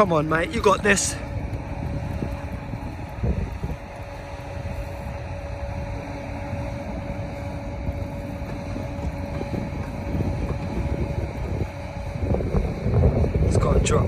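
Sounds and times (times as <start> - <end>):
steady droning hum: 0.0 - 14.0
wind rumbling on microphone: 0.0 - 14.0.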